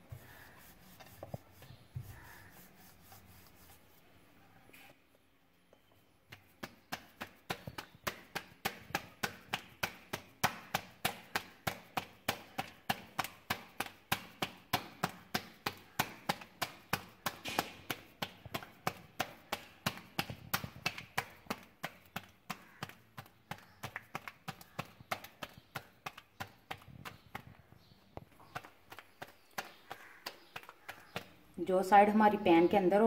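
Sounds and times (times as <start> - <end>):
hands slapping dough: 0.0 - 4.0, 6.2 - 32.2.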